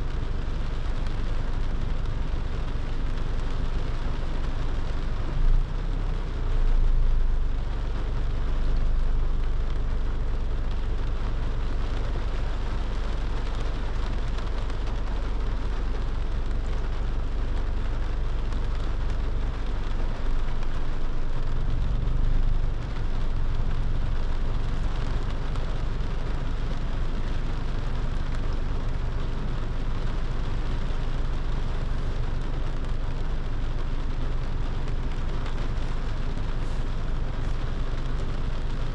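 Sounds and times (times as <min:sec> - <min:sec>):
rain hiss on car: 0:00.0 - 0:38.9
road and engine rumble: 0:00.0 - 0:38.9.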